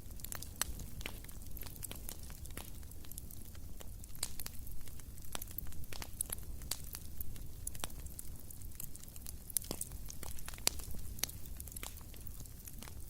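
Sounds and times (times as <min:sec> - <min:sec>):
campfire pops and snaps: 0:00.0 - 0:13.0
low rumble of burning: 0:00.0 - 0:13.0.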